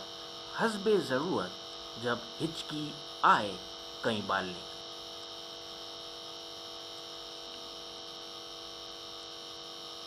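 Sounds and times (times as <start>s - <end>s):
electrical hum: 0.0s - 10.0s
high whine: 0.0s - 10.0s.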